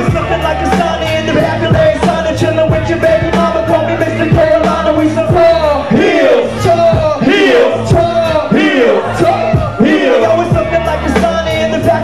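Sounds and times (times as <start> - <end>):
deep bass line: 0.0 - 12.0
hip hop beat through pa: 0.0 - 12.0.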